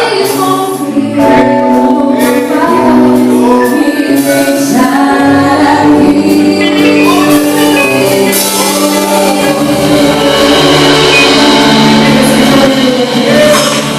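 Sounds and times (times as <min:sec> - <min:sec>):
instrumental accompaniment: 0:00.0 - 0:13.9
women singing: 0:00.0 - 0:13.9.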